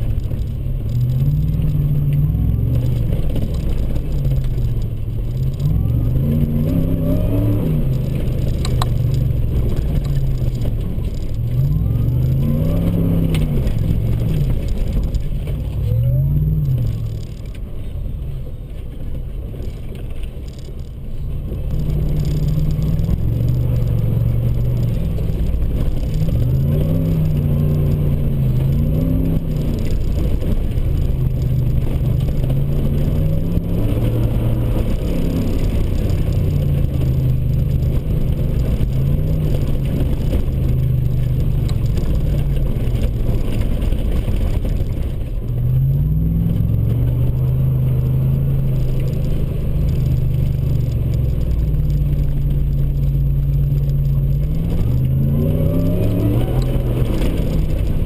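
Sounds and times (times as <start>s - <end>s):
truck engine revving: 0.0s - 17.6s, 21.4s - 58.0s
tyre and road rumble: 0.0s - 58.0s.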